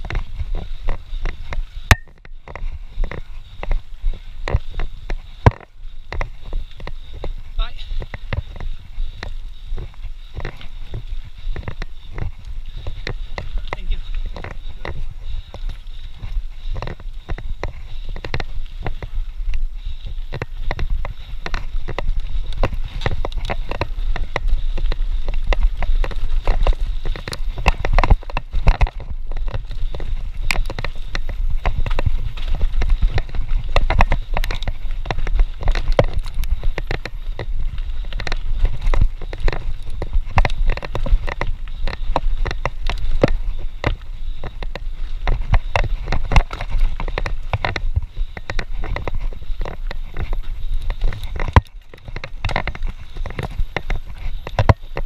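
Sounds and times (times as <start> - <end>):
bike rattling over stones: 0.0 - 55.0
wind rumble on microphone: 0.0 - 55.0.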